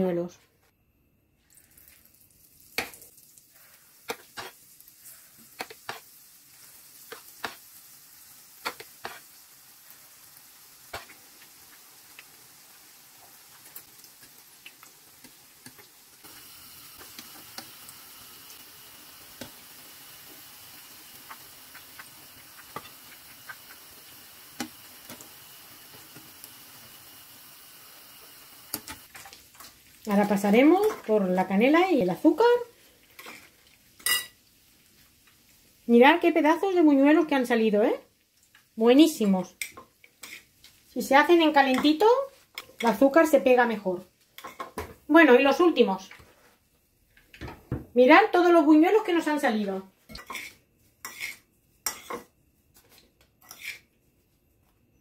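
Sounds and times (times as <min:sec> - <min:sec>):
fritters sizzling in hot oil: 0:01.4 - 0:45.5, 0:50.1 - 0:53.9.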